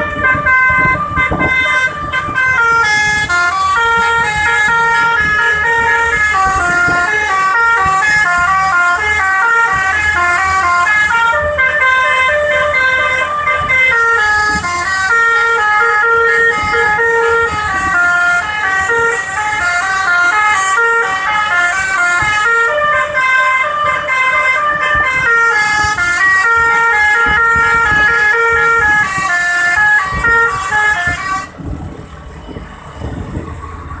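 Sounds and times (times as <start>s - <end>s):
musical air horn melody: 0.0s - 31.6s.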